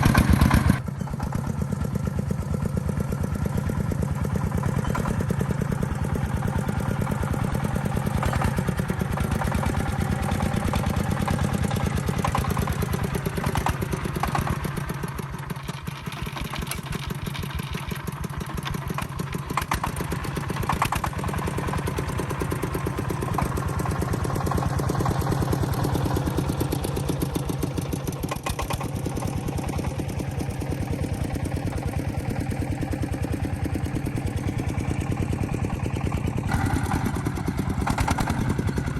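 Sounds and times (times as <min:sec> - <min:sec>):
small engine idling: 0:00.0 - 0:38.9.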